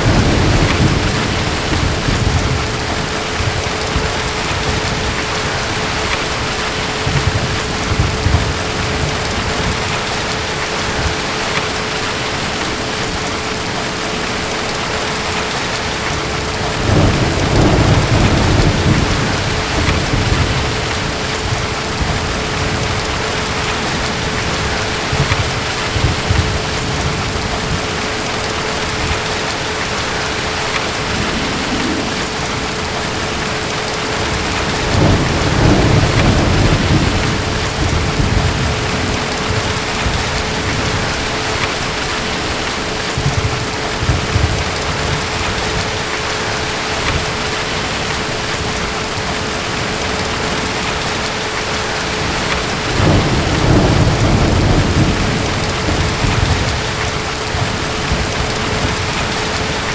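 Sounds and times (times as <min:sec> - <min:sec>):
distant thunder rumbling: 0:00.0 - 0:59.9
heavy rain falling: 0:00.0 - 0:59.9.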